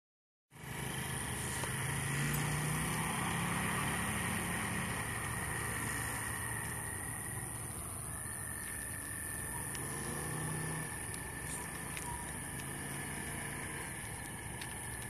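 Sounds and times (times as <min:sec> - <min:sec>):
distant jet engines: 0:00.6 - 0:15.0.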